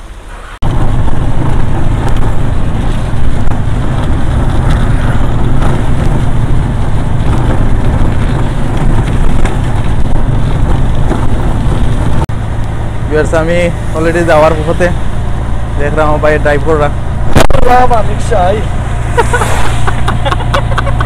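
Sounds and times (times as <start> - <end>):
rushing noise: 0.0 - 21.0.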